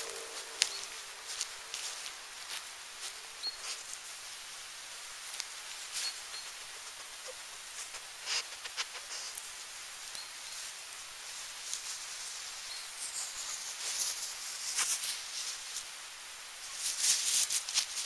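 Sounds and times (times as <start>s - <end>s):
dog rustling through grass: 0.0s - 16.0s, 16.6s - 18.0s.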